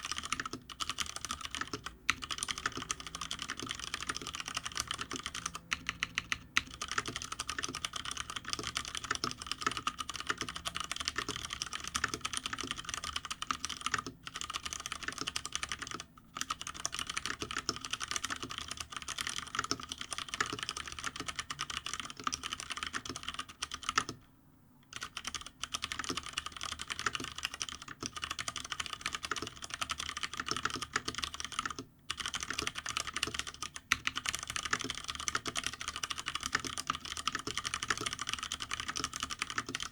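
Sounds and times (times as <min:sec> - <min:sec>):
fast typing on mechanical keyboard: 0:00.0 - 0:24.2, 0:24.8 - 0:39.9.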